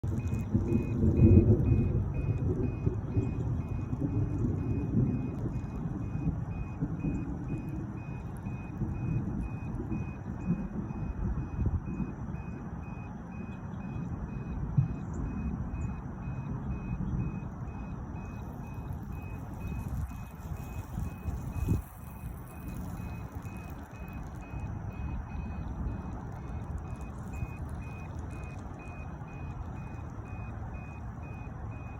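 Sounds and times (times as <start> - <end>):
hoverboard rolling on wet pavement: 0.0 - 31.9
faint high electronic beep: 0.1 - 31.9.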